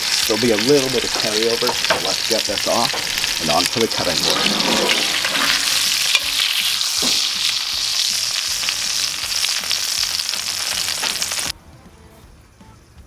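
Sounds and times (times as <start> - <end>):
steak sizzling in skillet: 0.0 - 11.5.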